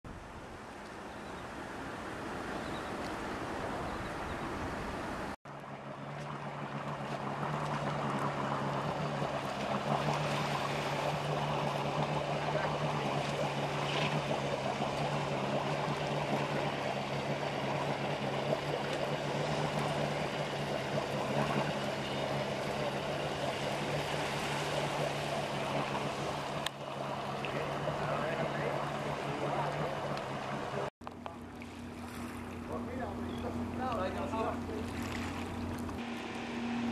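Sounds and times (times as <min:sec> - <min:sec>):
water sloshing: 0:00.1 - 0:36.9
engine idle hum: 0:03.8 - 0:36.9.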